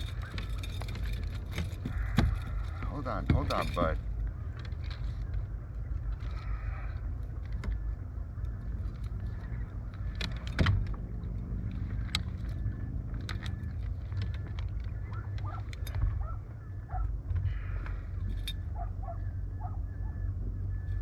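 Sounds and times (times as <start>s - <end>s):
fishing gear clicks and rattles: 0.0s - 19.2s
steady low rumble: 0.0s - 21.0s.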